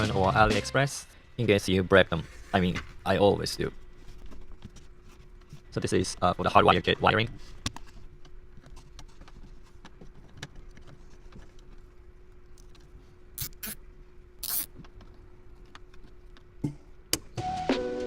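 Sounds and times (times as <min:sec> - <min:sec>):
faint steady hum: 0:00.9 - 0:17.4.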